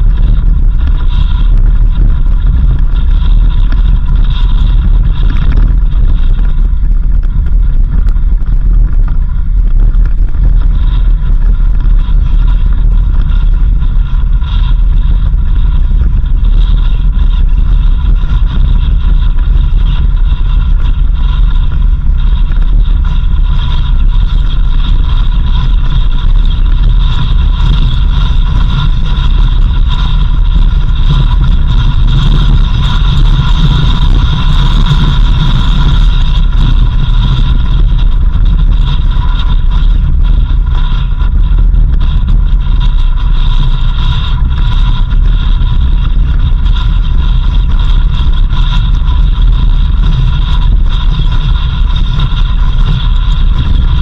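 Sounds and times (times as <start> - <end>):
car rumbling on dirt road: 0.0 - 54.0
high whine: 0.0 - 54.0.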